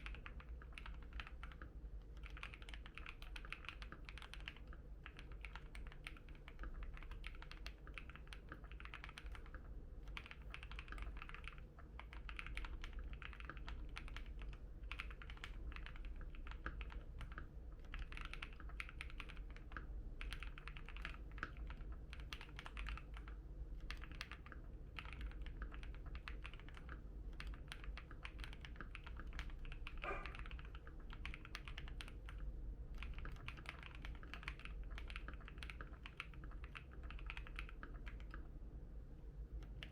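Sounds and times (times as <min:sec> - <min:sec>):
mechanical keyboard typing: 0:00.0 - 0:38.5, 0:39.6 - 0:39.9.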